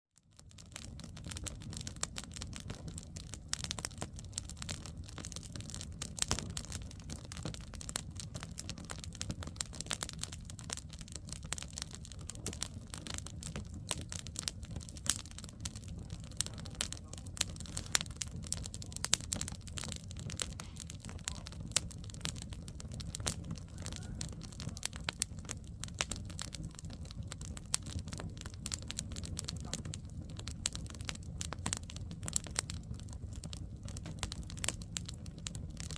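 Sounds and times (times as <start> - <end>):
campfire crackling and popping: 0.2 - 35.9
low fire rumble: 0.2 - 35.9.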